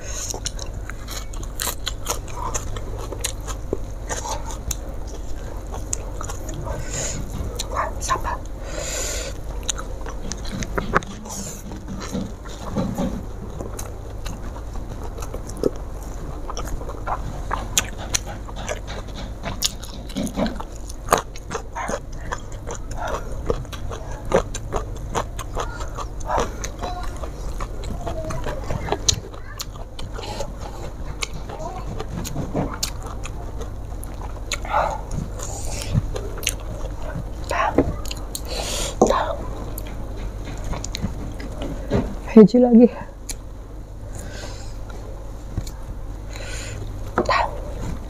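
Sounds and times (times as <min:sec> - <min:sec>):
person chewing: 0:00.0 - 0:42.0, 0:43.1 - 0:48.0.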